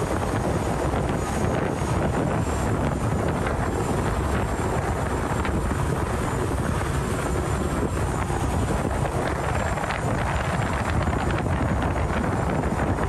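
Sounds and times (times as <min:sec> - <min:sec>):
boat engine rumbling: 0:00.0 - 0:13.0
wind on microphone: 0:00.0 - 0:13.0.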